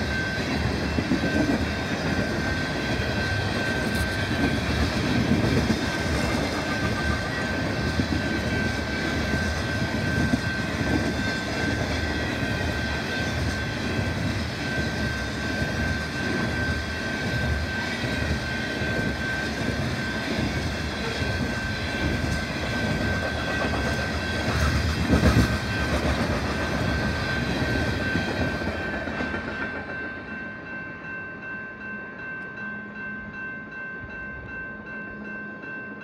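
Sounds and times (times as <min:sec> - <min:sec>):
train wheels clattering on rails: 0:00.0 - 0:30.4
train clanking: 0:00.0 - 0:31.5
level-crossing bell ringing: 0:00.0 - 0:36.0.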